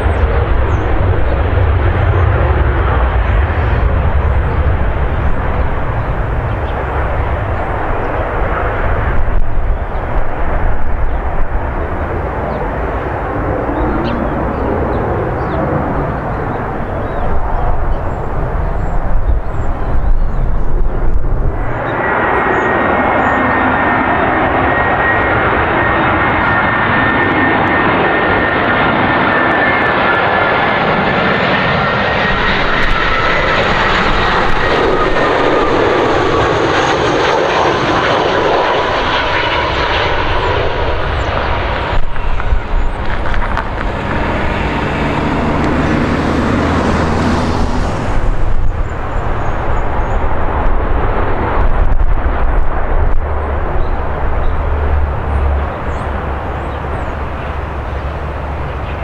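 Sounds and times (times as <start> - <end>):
jet engine rumble and whine: 0.0 - 59.0.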